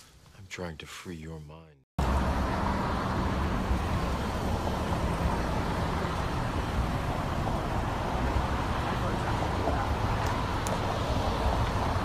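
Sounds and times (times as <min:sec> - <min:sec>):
outdoor rumble with hiss: 0:02.0 - 0:12.0.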